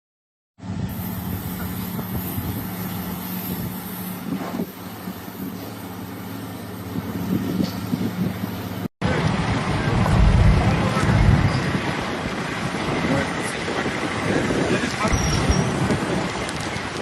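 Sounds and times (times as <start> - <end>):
engine humming: 0.7 - 14.5.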